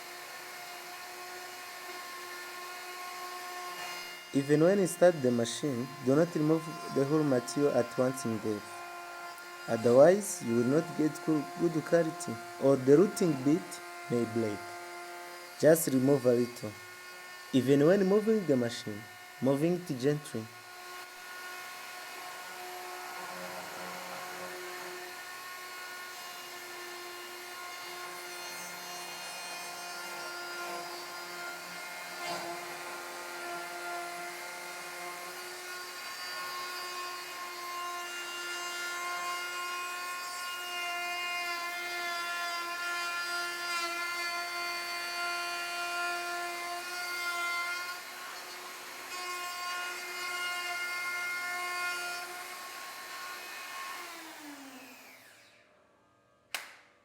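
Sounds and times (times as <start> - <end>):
electric router whining: 0.0 - 55.6.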